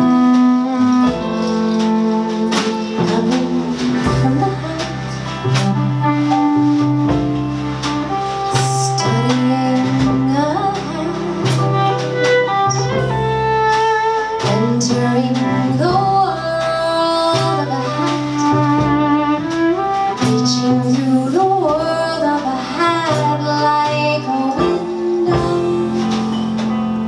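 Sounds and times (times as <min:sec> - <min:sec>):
double bass: 0:00.0 - 0:27.0
drums: 0:00.0 - 0:27.0
piano: 0:00.0 - 0:27.0
violin melody: 0:00.0 - 0:27.0.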